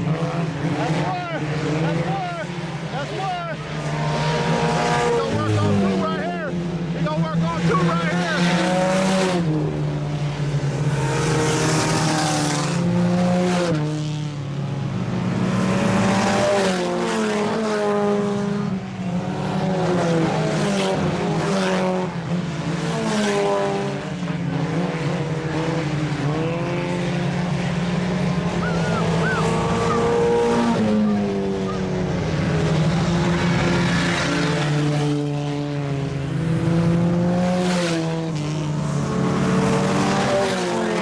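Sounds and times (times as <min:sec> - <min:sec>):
race car engines accelerating: 0:00.0 - 0:41.0.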